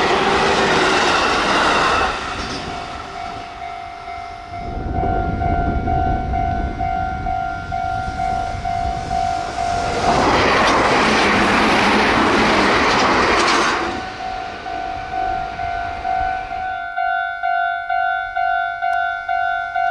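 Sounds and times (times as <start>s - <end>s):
level-crossing warning bell: 0.0s - 11.2s, 12.1s - 19.9s
train passing at high speed: 0.0s - 19.9s.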